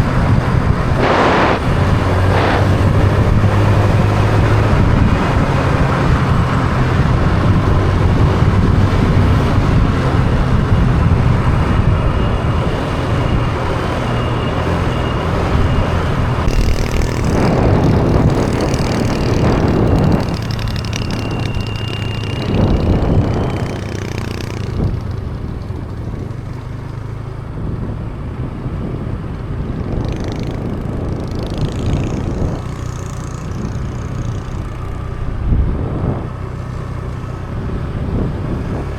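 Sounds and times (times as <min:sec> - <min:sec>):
road noise: 0:00.0 - 0:38.9
small motorbike engine running: 0:00.0 - 0:38.9
wind noise: 0:00.0 - 0:38.9.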